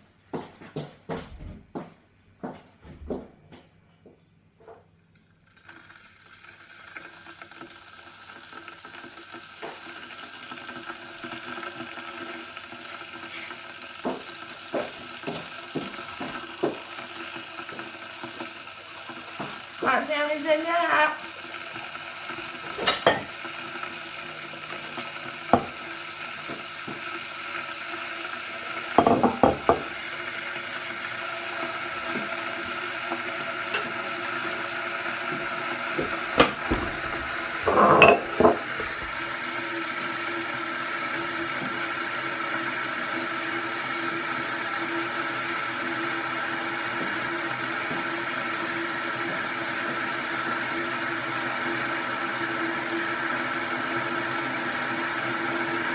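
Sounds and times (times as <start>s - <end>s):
electric kettle heating water: 4.6s - 55.9s.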